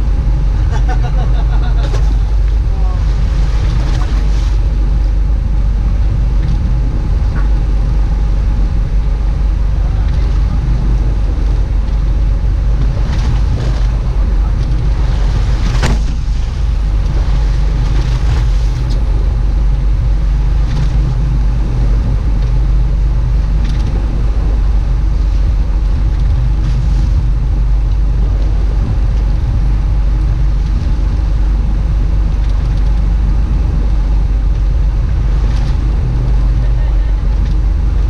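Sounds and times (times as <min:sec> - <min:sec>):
boat engine drone: 0:00.0 - 0:38.0
wind and water rushing: 0:00.0 - 0:38.0.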